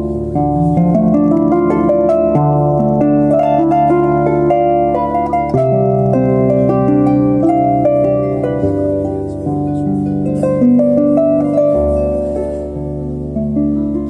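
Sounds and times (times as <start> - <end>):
solo harp playing: 0.0 - 14.0.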